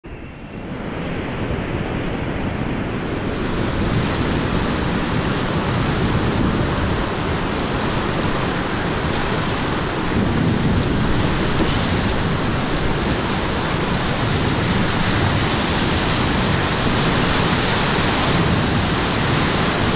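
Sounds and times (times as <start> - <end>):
whitewater rushing: 0.7 - 19.9.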